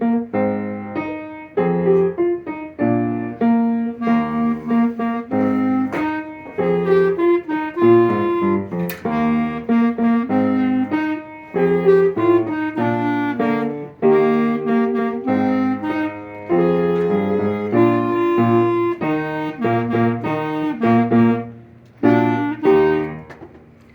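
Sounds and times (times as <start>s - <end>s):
wind band playing chords: 3.4s - 23.3s.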